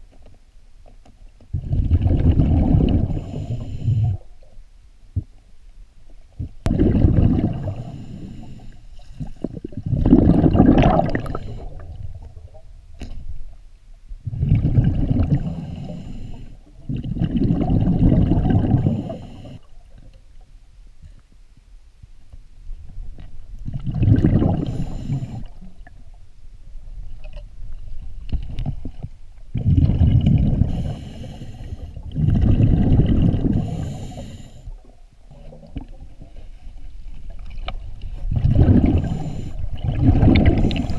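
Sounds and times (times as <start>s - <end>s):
underwater bubbles gurgling: 1.5s - 4.5s, 6.3s - 13.5s, 14.2s - 20.4s, 22.9s - 26.2s, 27.0s - 40.9s.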